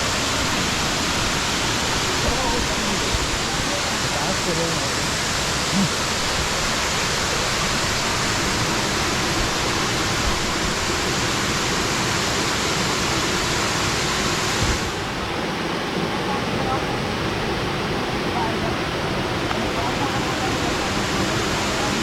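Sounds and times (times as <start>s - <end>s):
waterfall rushing into pool: 0.0s - 22.0s.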